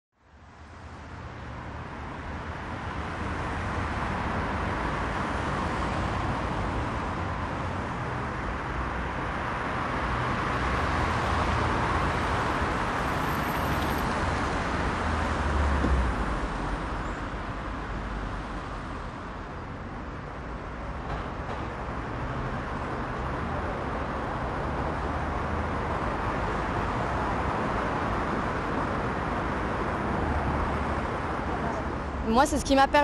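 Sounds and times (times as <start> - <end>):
cars driving past: 0.3 - 33.0.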